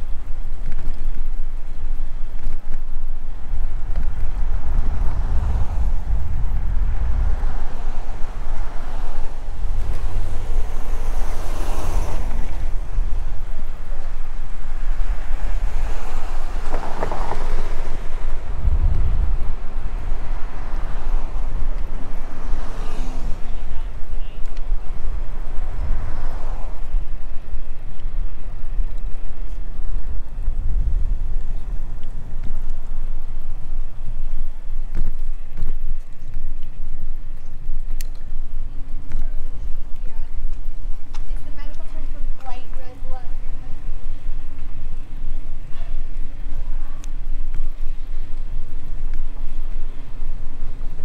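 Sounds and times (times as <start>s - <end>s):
wind rumbling on microphone: 0.0s - 51.0s.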